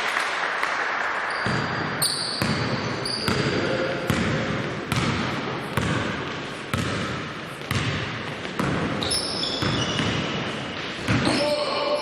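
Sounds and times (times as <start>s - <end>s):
sneakers squeaking: 1.3s - 12.0s
basketball bouncing on floor: 1.4s - 11.4s.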